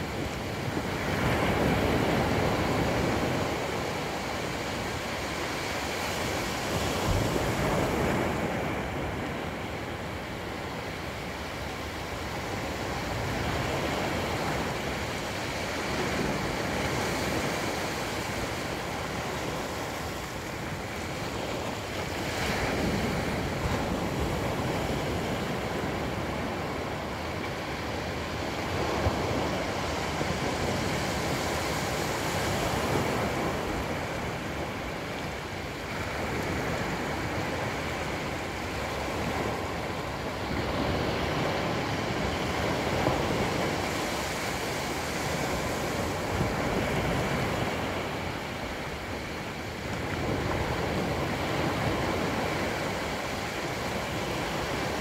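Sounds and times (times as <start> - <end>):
small waves breaking on sand: 0.0 - 55.0.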